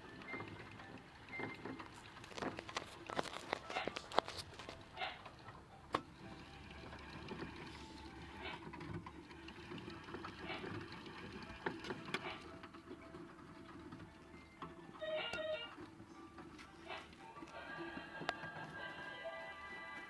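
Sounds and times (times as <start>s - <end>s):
hamster wheel whirring and rattling: 0.0s - 20.0s.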